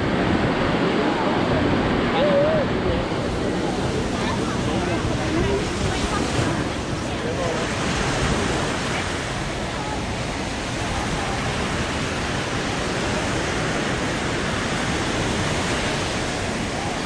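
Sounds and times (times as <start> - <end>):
ocean surf: 0.0 - 17.0
wind: 0.0 - 17.0
people talking: 0.6 - 17.0.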